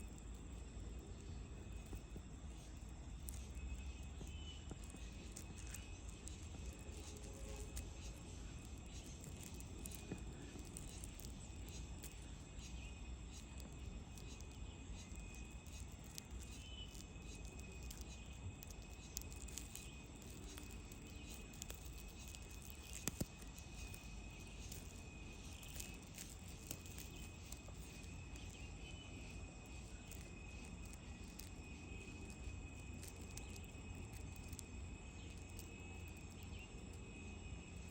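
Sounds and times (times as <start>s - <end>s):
ants crackling and clicking: 0.0s - 37.9s
thin steady high tone: 0.0s - 37.9s.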